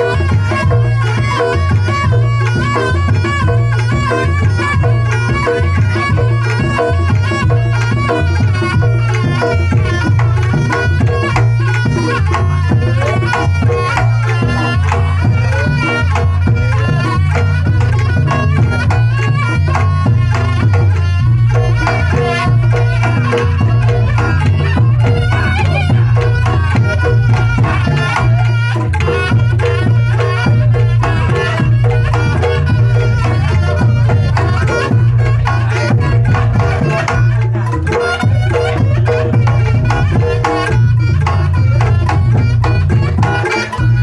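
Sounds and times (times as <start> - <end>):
gamelan ensemble playing: 0.0 - 44.0
hand drum beat: 0.0 - 44.0
reed trumpet melody: 0.0 - 44.0.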